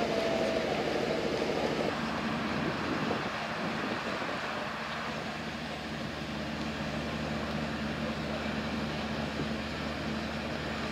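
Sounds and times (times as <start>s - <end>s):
faint harbour noise: 0.0s - 10.9s
ship diesel engines humming: 0.0s - 10.9s.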